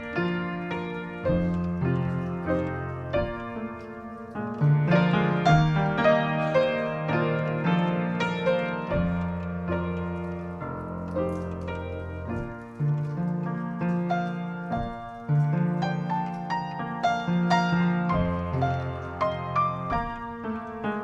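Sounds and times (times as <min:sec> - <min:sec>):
solo piano chords: 0:00.0 - 0:21.0.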